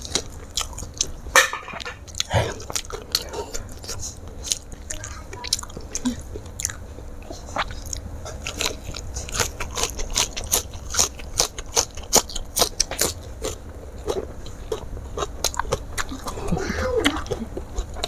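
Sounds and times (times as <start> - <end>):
crunchy chewing of lettuce: 0.0 - 18.0.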